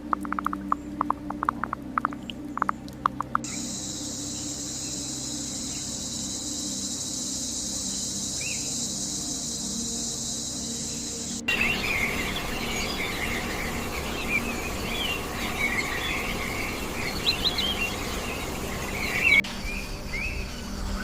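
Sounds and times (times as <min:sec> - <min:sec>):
background hiss: 0:00.0 - 0:21.0
birds chirping: 0:00.0 - 0:21.0.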